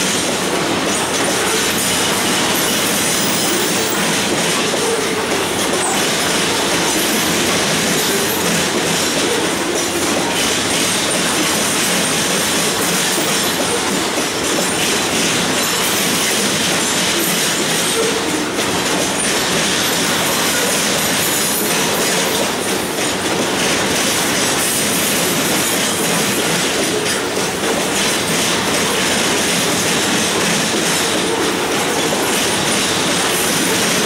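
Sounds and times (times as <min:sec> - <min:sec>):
train wheels rolling on track: 0:00.0 - 0:34.0.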